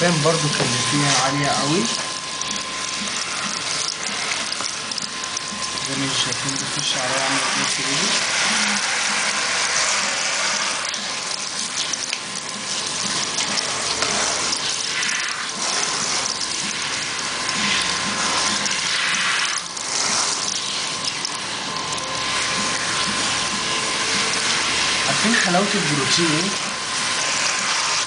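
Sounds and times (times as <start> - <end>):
water running from a tap: 0.0 - 28.0.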